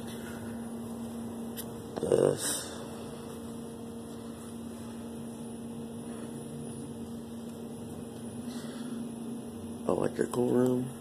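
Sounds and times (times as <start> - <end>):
electrical equipment hum: 0.0 - 11.0.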